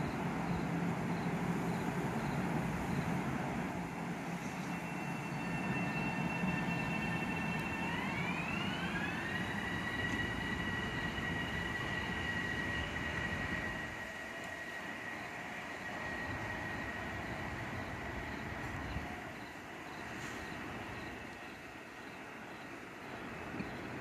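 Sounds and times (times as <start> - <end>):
electric train rumble and hiss: 0.0 - 24.0
high whine from train propulsion: 0.0 - 24.0.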